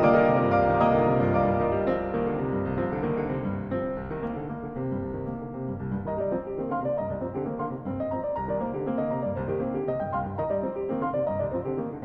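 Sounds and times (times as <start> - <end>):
slow classical piano music: 0.0 - 12.0.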